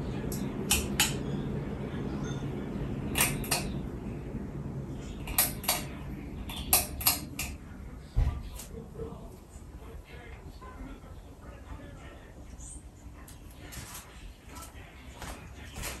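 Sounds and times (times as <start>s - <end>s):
ceiling fan humming: 0.0s - 16.0s.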